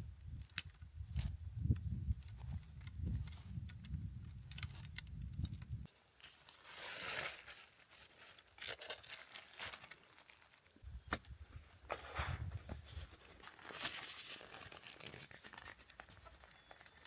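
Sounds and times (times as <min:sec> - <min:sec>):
rustling with small crackles: 0:00.4 - 0:10.9, 0:11.5 - 0:17.0.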